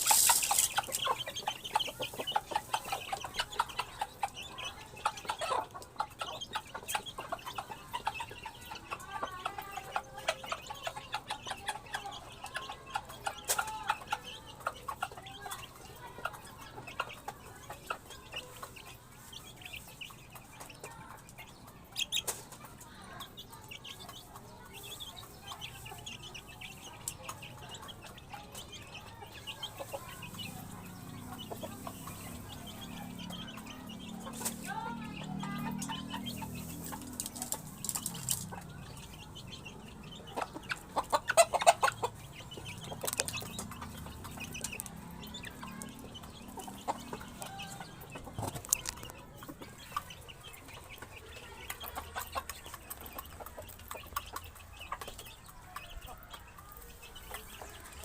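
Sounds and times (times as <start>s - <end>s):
beaks pecking at feed: 0.0s - 58.0s
chickens clucking: 0.0s - 58.0s.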